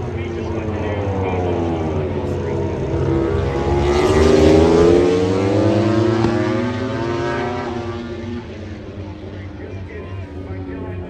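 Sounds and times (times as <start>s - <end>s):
racing motorcycle passing: 0.0s - 9.8s.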